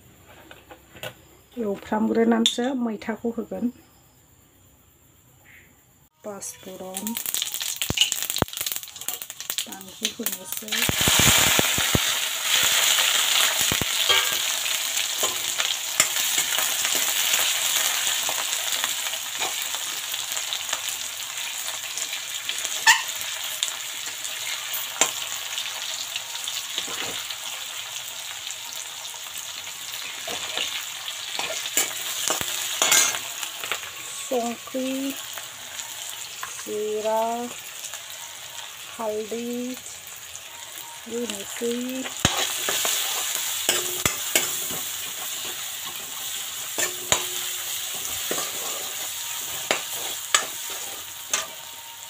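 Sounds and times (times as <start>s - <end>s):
vegetables sizzling in hot oil: 6.2s - 52.0s.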